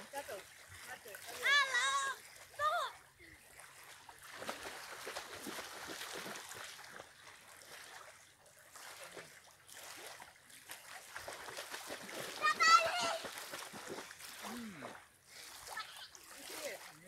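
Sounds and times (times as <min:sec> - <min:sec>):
water splashing as people swim: 0:00.0 - 0:17.0.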